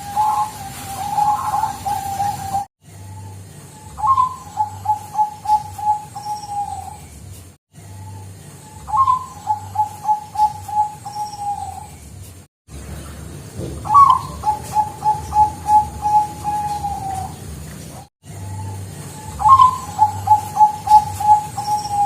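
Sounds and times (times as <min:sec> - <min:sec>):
dove cooing: 0:00.0 - 0:07.0, 0:08.0 - 0:11.9, 0:13.6 - 0:22.0.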